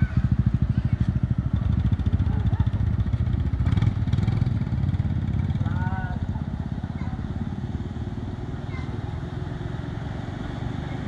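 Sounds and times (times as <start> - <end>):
motorbike engine idling: 0.0 - 9.4.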